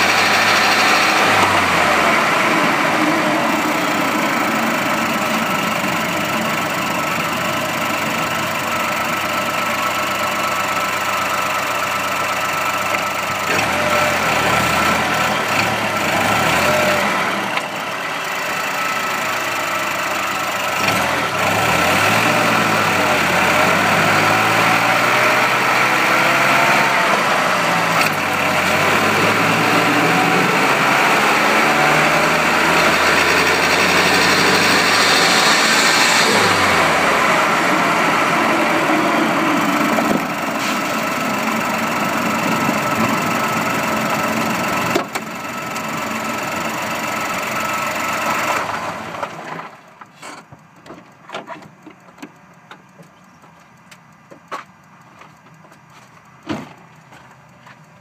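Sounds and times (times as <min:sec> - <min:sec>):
car engine with harsh noise: 0:00.0 - 0:58.0.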